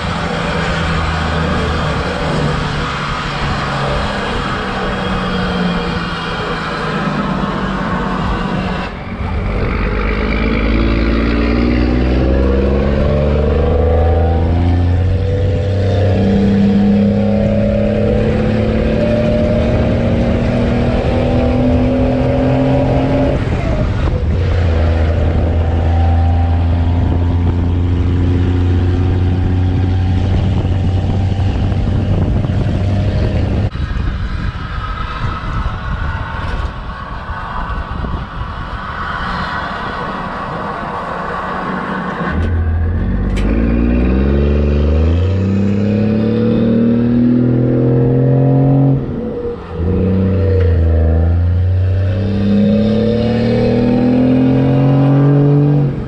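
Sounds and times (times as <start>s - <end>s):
diesel engine accelerating: 0.0s - 56.0s.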